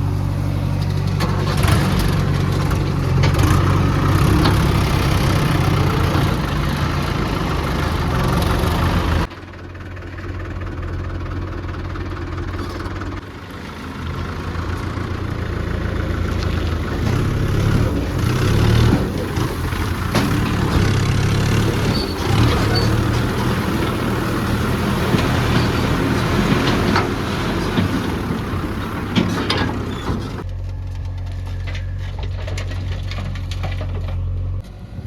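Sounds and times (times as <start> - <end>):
diesel engine revving: 0.0 - 9.3, 10.2 - 30.5.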